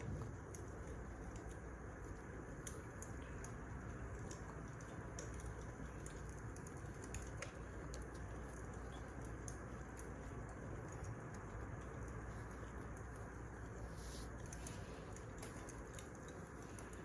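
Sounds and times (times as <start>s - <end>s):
low hiss: 0.0s - 17.0s
wood fire crackling: 0.0s - 17.0s.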